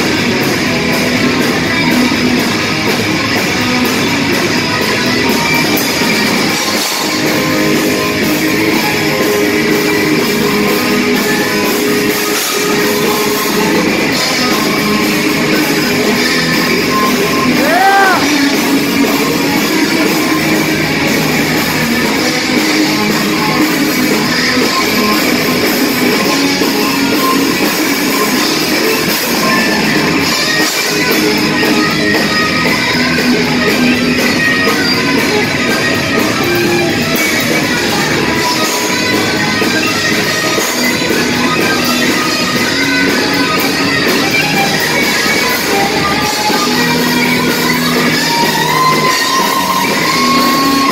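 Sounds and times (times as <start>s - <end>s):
bass guitar: 0.0s - 50.9s
drum kit: 0.0s - 50.9s
electric guitar: 0.0s - 50.9s.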